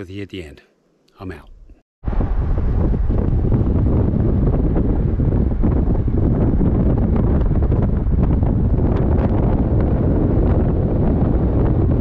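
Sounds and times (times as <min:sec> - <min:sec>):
wind buffeting microphone: 0:02.0 - 0:12.0.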